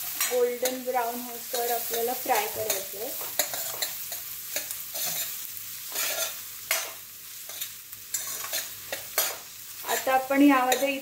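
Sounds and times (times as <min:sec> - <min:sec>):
metal spatula scraping a pan: 0:00.0 - 0:11.0
onions sizzling in oil: 0:00.0 - 0:11.0.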